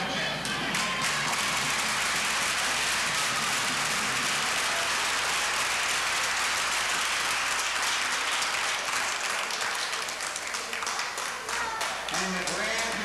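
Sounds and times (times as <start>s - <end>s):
audience applauding: 0.3s - 13.0s.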